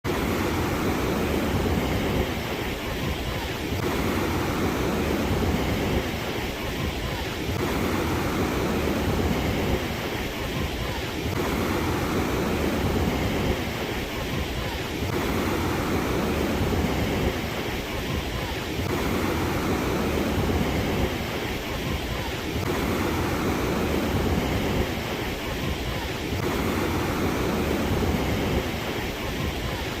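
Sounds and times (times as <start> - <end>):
ocean waves washing in: 0.0 - 30.0.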